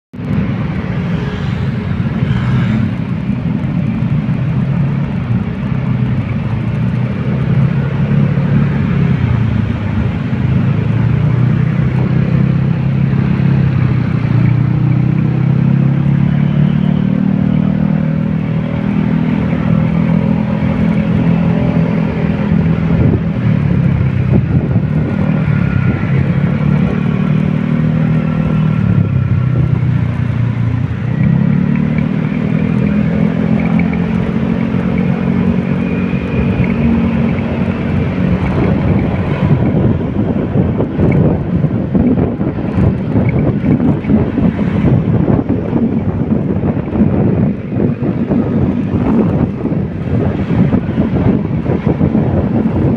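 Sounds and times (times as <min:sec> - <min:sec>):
vehicle engine rumbling: 0:00.1 - 0:52.9.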